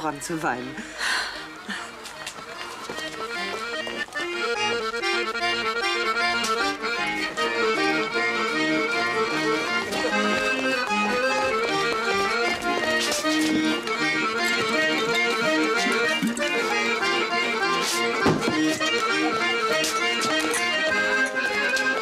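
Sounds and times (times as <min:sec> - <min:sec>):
accordion dance tune: 0:00.0 - 0:22.0.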